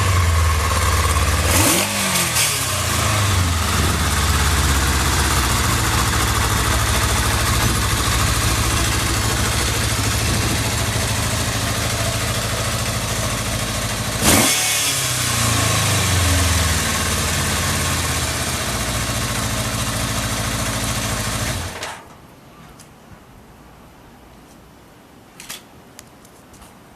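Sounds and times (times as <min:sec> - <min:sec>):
motorcycle engine idling: 0:00.0 - 0:21.8.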